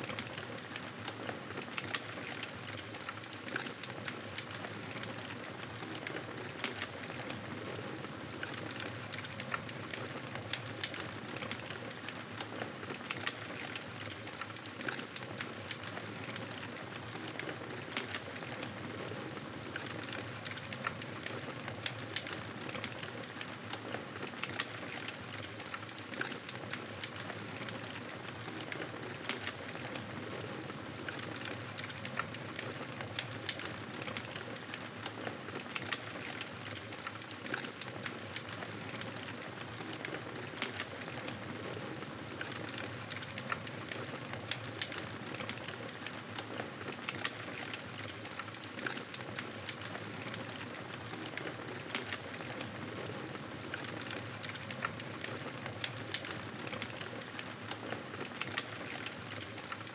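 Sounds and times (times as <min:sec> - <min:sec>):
fire crackling and popping: 0:00.1 - 0:59.9.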